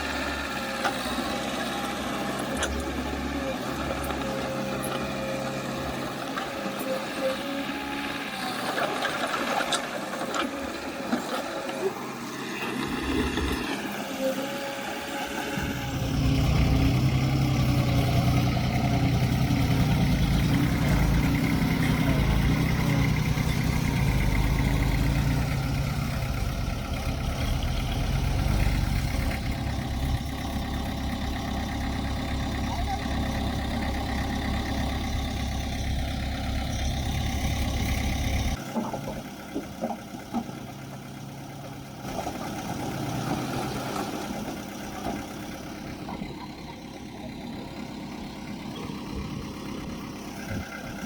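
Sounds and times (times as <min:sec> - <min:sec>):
heavy machinery diesel engine: 0:00.0 - 0:51.0
loud deep engine: 0:00.0 - 0:51.0.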